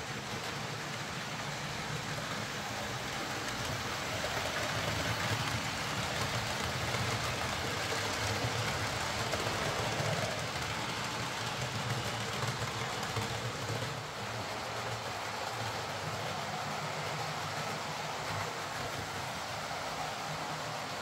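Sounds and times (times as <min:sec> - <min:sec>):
wheels rolling on rails: 0:00.0 - 0:21.0.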